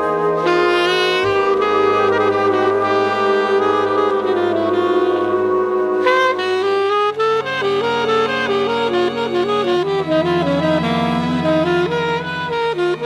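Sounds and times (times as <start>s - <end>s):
jazz orchestra music: 0.0s - 13.0s.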